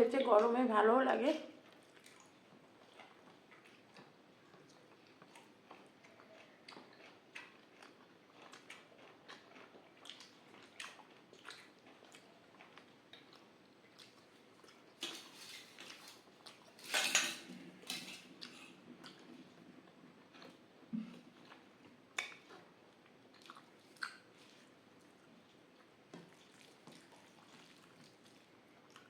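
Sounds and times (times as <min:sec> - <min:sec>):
chewing and wet mouth sounds: 0:01.6 - 0:29.0.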